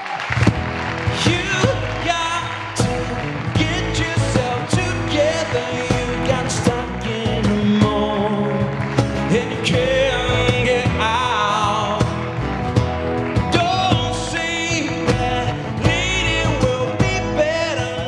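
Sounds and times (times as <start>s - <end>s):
live rock band playing: 0.2s - 18.0s
drums steady beat: 0.4s - 18.0s
person singing: 1.1s - 12.4s, 13.4s - 18.0s.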